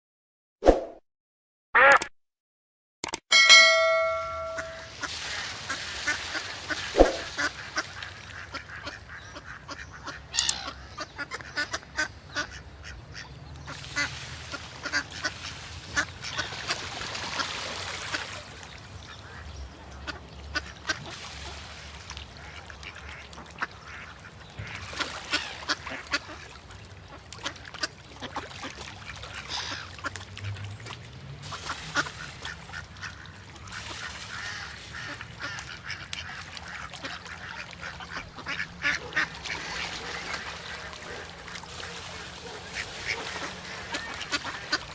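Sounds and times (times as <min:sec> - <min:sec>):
ducks quacking: 0:03.8 - 0:18.4, 0:19.1 - 0:21.6, 0:22.3 - 0:30.5, 0:31.5 - 0:44.9.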